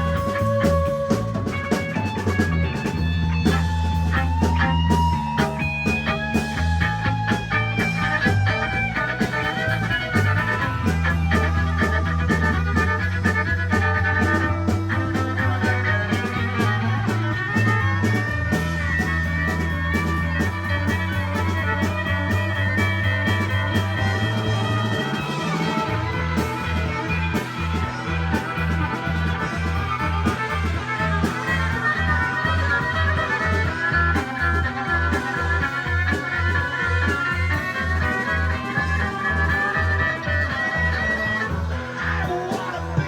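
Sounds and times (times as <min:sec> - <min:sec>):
bass guitar pulsing note: 0:00.0 - 0:43.0
live rock band playing: 0:00.0 - 0:43.0.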